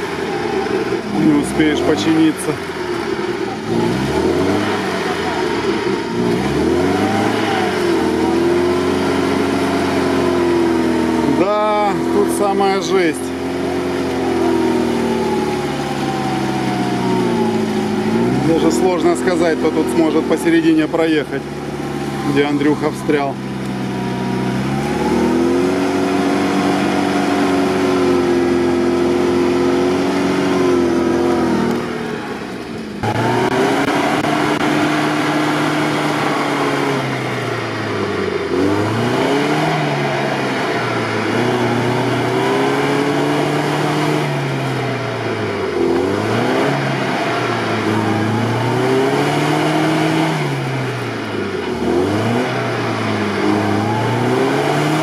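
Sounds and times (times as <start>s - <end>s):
suv engine revving: 0.0s - 55.0s.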